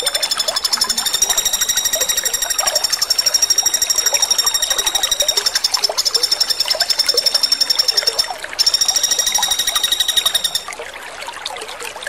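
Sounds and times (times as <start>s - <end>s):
woodpecker rattling trills: 0.0s - 10.8s.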